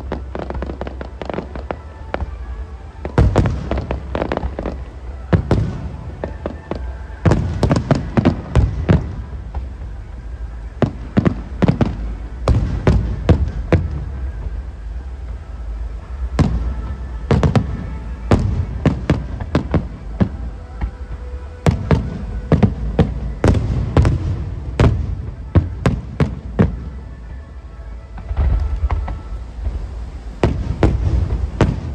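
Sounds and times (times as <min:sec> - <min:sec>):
fireworks bursting with sharp bangs: 0:00.0 - 0:31.9.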